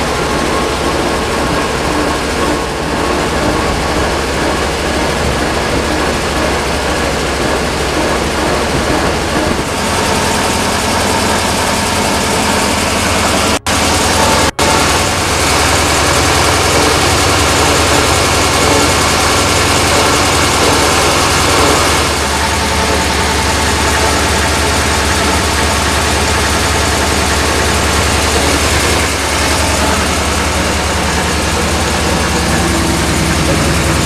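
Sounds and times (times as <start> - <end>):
diesel locomotive engine running: 0.0 - 34.0.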